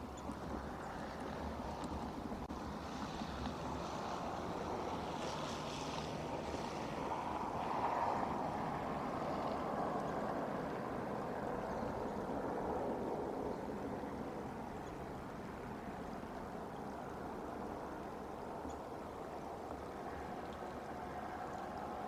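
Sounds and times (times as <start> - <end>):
wind rushing through trees: 0.0 - 22.0.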